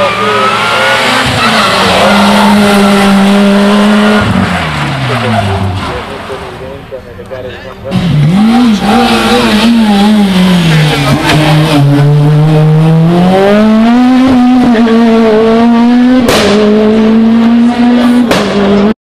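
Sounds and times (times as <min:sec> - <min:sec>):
rally car engine at full load: 0:00.0 - 0:19.0.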